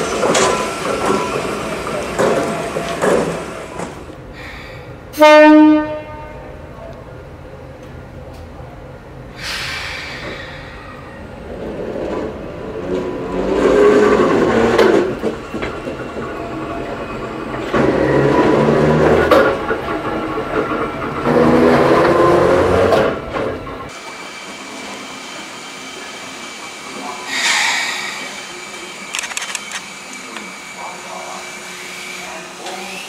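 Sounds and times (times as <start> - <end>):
railcar wheels rumbling: 0.0 - 33.0.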